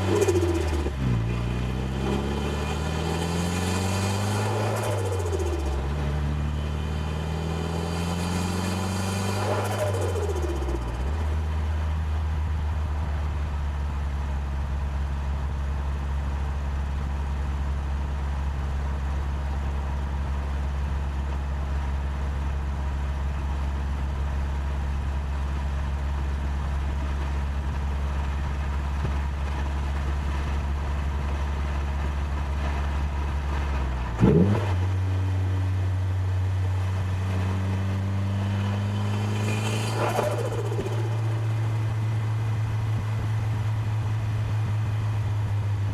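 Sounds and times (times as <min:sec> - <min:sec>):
car engine droning: 0:00.0 - 0:45.9.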